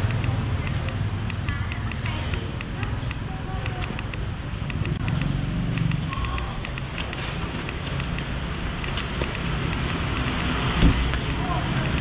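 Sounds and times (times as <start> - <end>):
motor traffic: 0.0 - 12.0
rapid light ticking: 0.0 - 12.0.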